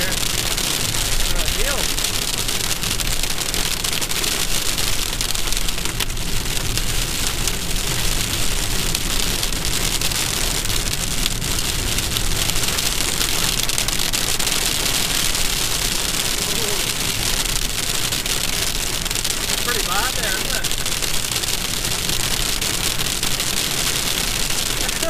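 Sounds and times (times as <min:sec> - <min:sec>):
heavy rain on car roof: 0:00.0 - 0:25.0.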